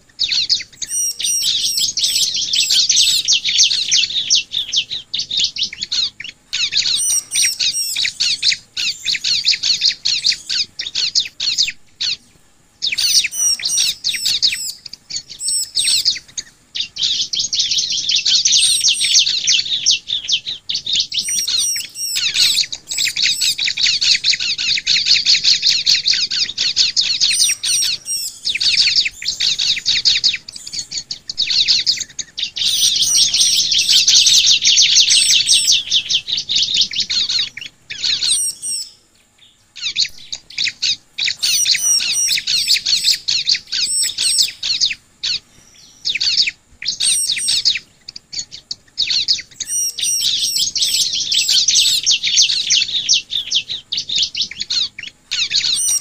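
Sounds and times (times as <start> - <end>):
bird rapid high-pitched chirping: 0.0 - 56.0.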